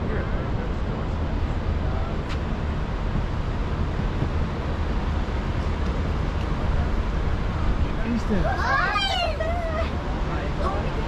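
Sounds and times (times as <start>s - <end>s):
open-air background rumble and hiss: 0.0s - 11.0s.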